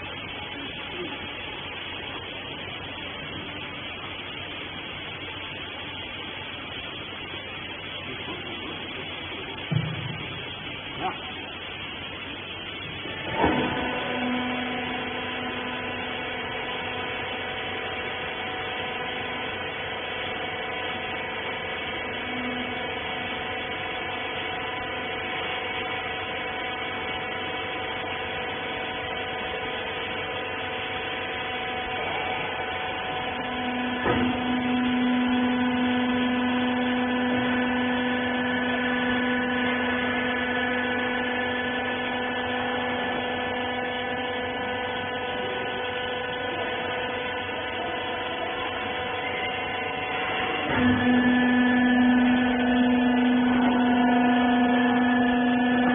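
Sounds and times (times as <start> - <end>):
electric motor and pump humming: 0.0 - 55.9.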